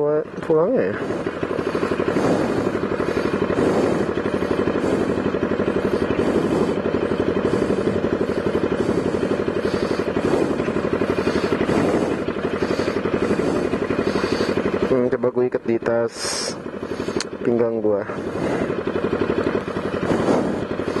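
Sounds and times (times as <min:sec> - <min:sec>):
motorcycle engine idling open exhaust: 0:00.0 - 0:21.0.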